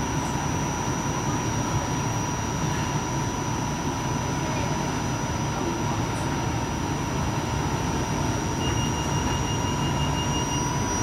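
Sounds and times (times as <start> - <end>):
light rail car rumble and hum: 0.0 - 11.0
thin steady whine: 0.0 - 11.0.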